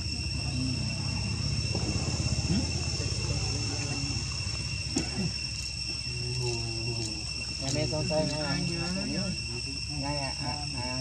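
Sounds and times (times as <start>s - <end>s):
faint low murmuring: 0.0s - 11.0s
insects chirring: 0.0s - 11.0s.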